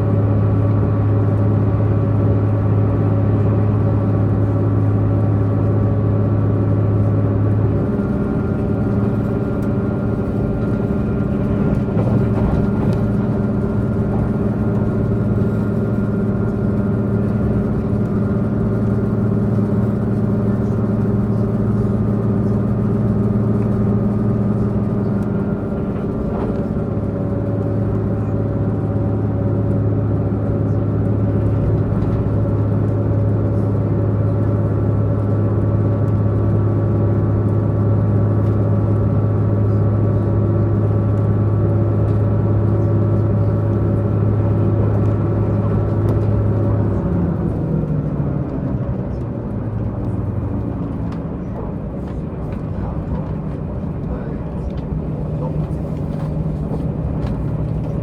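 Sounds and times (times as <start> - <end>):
train diesel engine drone: 0.0 - 58.0.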